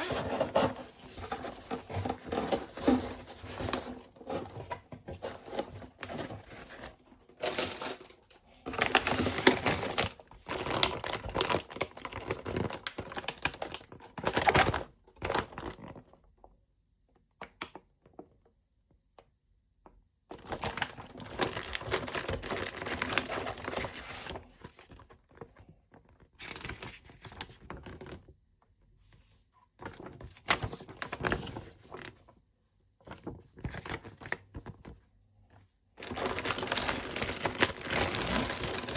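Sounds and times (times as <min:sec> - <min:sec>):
rustling and crinkling handling: 0:00.0 - 0:16.4, 0:20.3 - 0:38.9.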